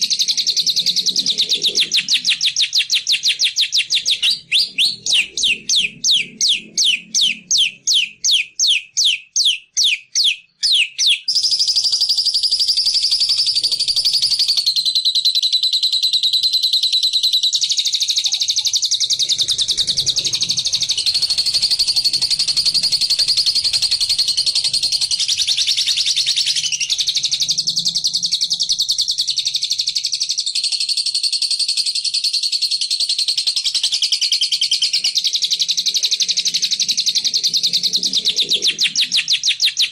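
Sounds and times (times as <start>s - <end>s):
bird chirping and chattering: 0.0s - 39.9s.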